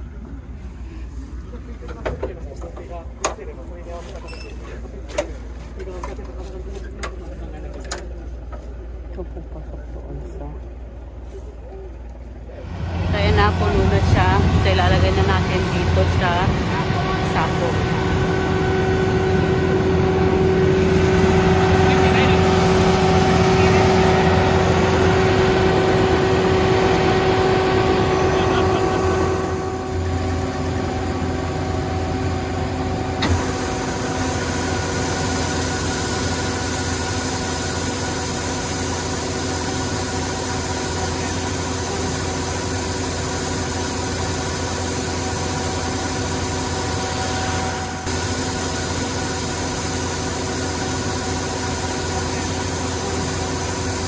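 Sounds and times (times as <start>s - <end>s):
harvester engine running: 0.0s - 54.0s.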